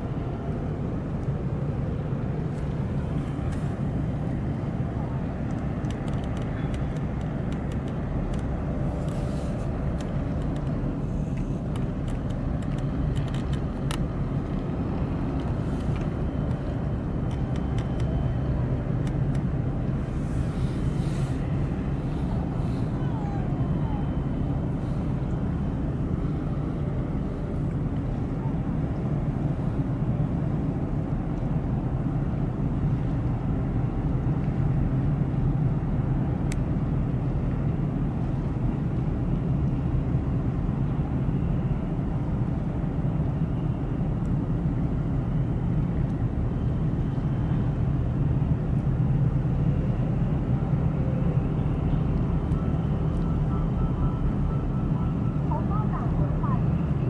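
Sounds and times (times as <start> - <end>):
faint steady tones: 0.0 - 57.0
ship engine rumble: 0.0 - 57.0.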